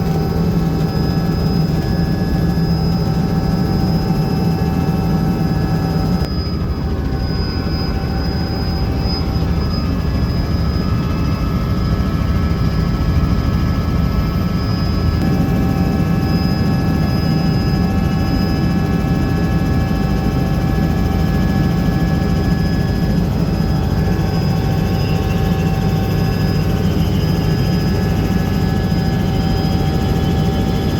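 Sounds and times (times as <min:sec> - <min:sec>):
helicopter rotor and engine drone: 0:00.0 - 0:30.9
thin whining tones: 0:00.0 - 0:30.9.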